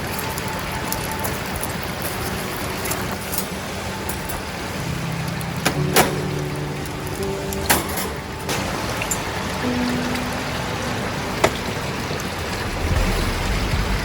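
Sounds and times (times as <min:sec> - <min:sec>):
campfire crackles: 0:00.0 - 0:14.0
river rushing: 0:00.0 - 0:14.0.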